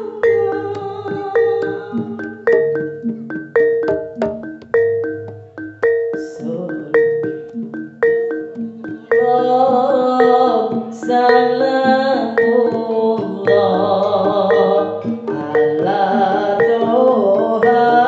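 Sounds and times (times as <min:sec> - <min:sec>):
metal mallet instruments ringing: 0:00.0 - 0:18.0
sustained wavering melody: 0:00.0 - 0:18.0.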